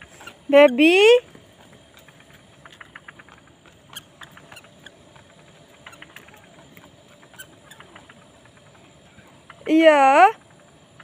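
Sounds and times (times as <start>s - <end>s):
faint small clicks and ticks: 1.2s - 11.0s.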